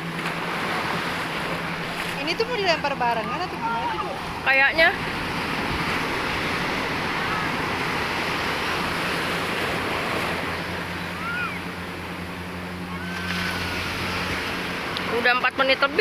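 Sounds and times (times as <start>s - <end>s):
faint motorboat engine hum: 0.0s - 16.0s
sea surf rushing: 0.0s - 16.0s.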